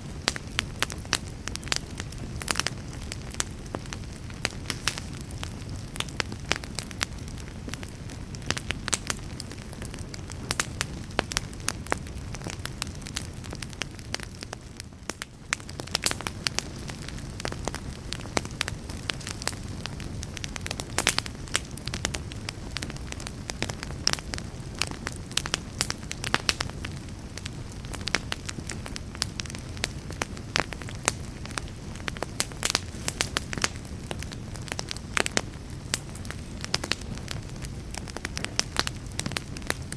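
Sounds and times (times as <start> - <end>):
wood fire popping and crackling: 0.0 - 39.9.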